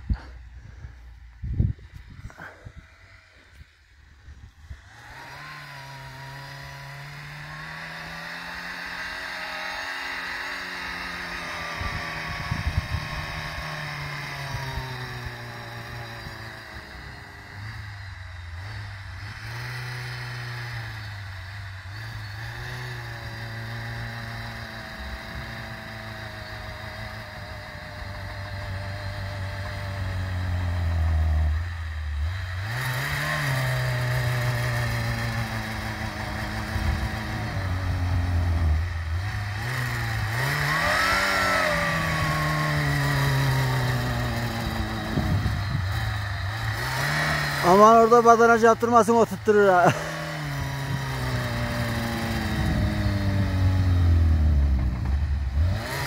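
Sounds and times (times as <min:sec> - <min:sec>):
engine revving under load: 0:00.0 - 0:56.0.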